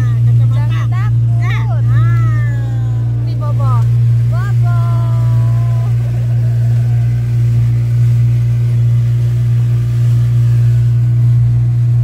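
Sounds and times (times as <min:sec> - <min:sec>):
speedboat engine humming: 0:00.0 - 0:12.0.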